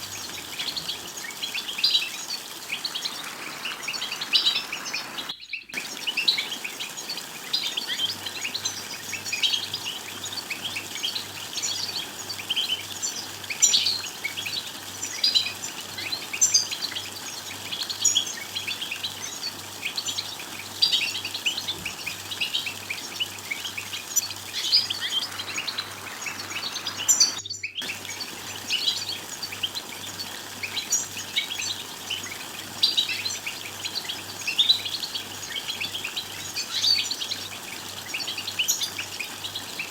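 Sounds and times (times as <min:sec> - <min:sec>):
finch chirping and trilling: 0:00.1 - 0:39.9.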